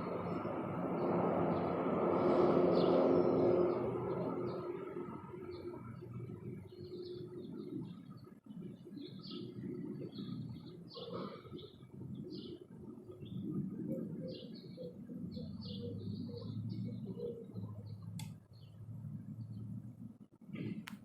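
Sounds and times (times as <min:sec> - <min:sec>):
small birds chirping: 0:00.0 - 0:20.2.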